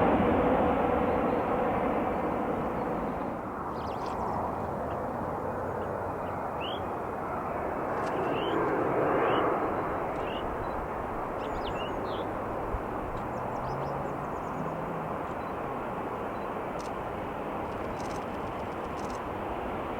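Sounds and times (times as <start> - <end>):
jet engine rushing: 0.0 - 19.9.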